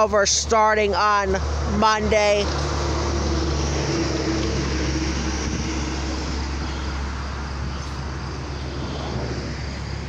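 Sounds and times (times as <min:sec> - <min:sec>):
road traffic rushing: 0:00.0 - 0:10.0.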